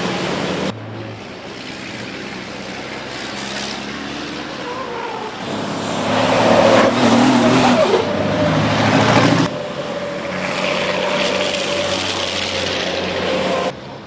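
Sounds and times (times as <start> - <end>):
truck diesel engines racing: 0.0 - 14.0.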